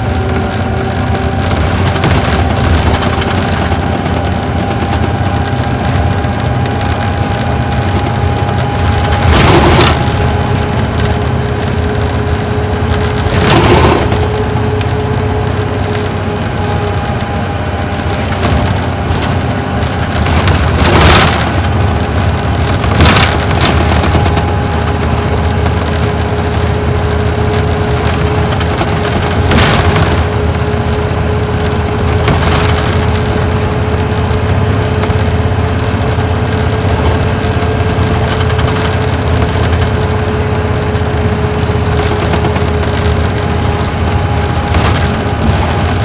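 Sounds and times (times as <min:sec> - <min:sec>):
bus engine rumbling with whine: 0:00.0 - 0:46.0.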